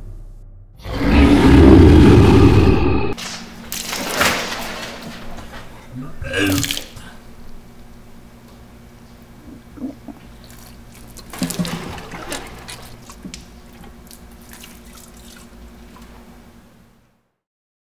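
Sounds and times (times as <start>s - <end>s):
low steady hum: 0.0s - 17.2s.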